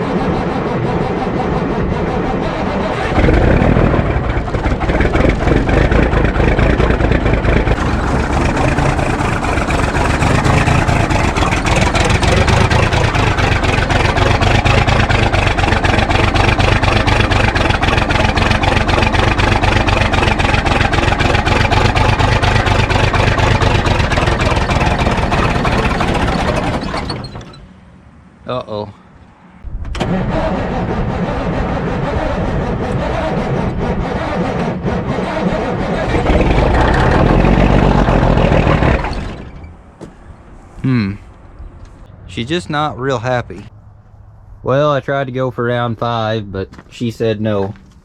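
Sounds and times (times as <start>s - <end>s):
diesel engine cranking: 0.0s - 28.4s, 29.2s - 43.8s.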